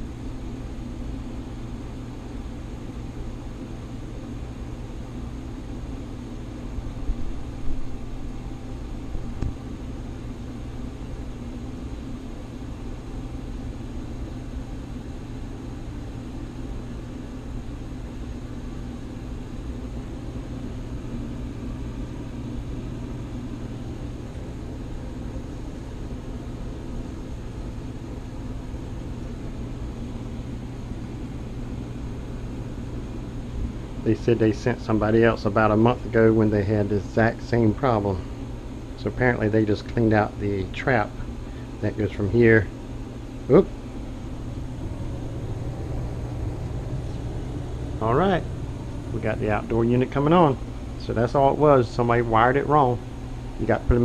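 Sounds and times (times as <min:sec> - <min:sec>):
air handler humming: 0:00.0 - 0:54.0.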